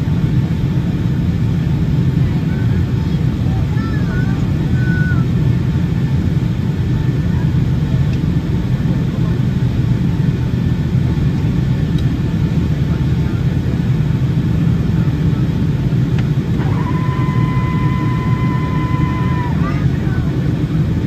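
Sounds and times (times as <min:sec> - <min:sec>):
aircraft cabin engine rumble: 0:00.0 - 0:21.0
steady high whine: 0:00.0 - 0:21.0.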